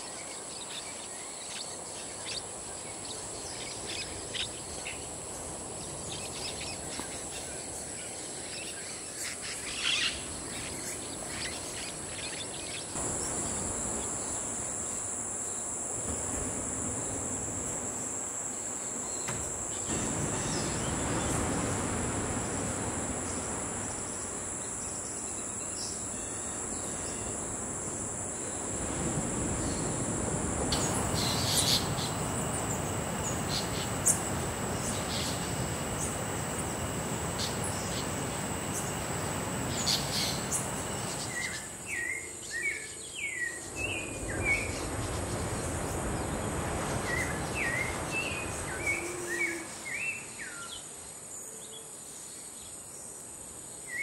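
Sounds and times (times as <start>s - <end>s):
high-pitched insect drone: 0.0s - 50.8s.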